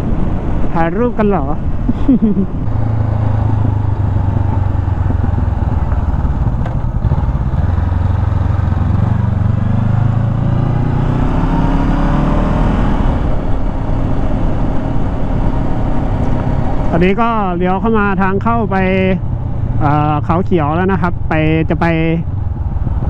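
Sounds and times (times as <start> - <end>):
motorcycle engine running: 2.3 - 11.4, 13.1 - 23.0.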